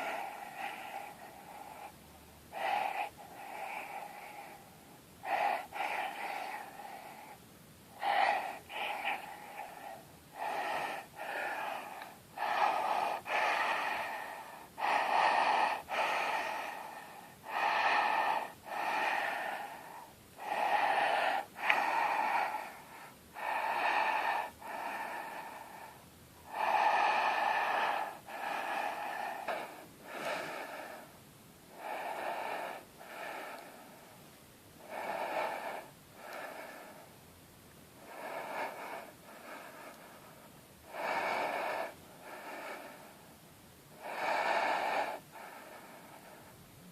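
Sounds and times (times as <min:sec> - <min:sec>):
person breathing deeply: 0:00.0 - 0:37.3, 0:38.0 - 0:46.9.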